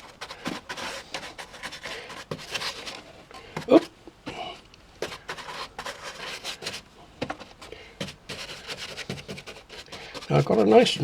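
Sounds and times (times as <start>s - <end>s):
toilet paper rustling and rubbing: 0.0s - 3.9s, 5.0s - 6.8s, 7.4s - 11.0s.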